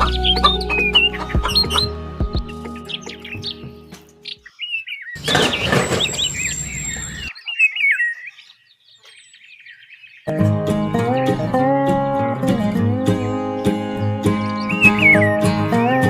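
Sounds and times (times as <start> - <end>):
small birds chirping: 0.0 - 10.4, 13.4 - 16.0.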